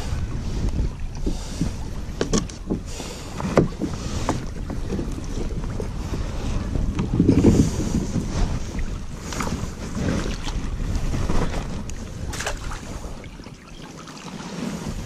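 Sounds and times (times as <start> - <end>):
water sloshing from paddling: 0.0 - 15.0
wind rumbling on microphone: 0.0 - 15.0.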